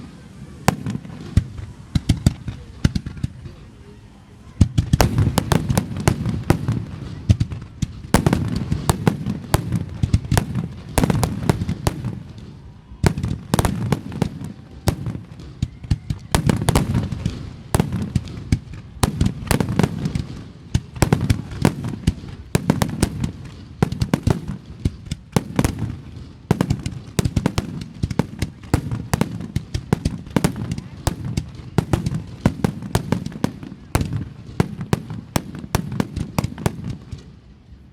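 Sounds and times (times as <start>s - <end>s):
fireworks bangs: 0.0s - 37.5s.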